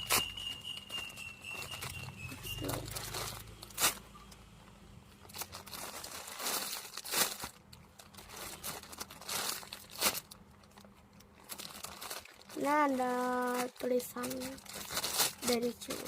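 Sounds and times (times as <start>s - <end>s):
plastic packaging crinkling: 0.0s - 4.5s, 5.1s - 16.0s.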